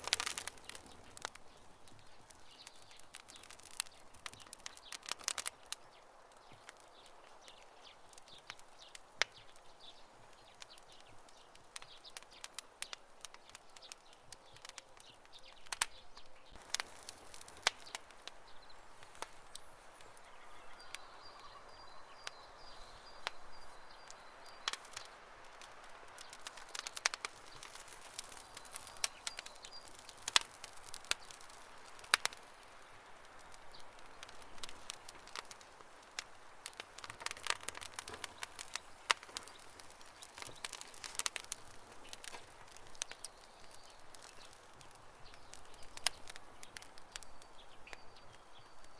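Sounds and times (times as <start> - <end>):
campfire crackling and popping: 0.0 - 48.9
low steady hiss: 0.0 - 48.9.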